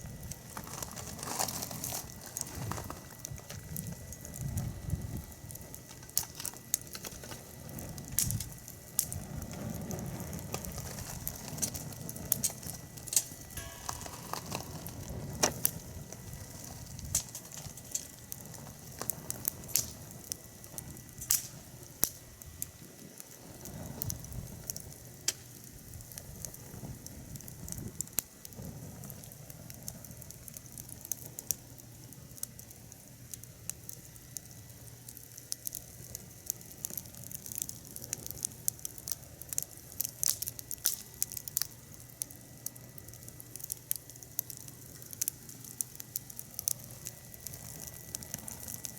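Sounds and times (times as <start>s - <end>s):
fire crackling and popping: 0.0s - 48.9s
soft hiss of fire: 0.0s - 48.9s.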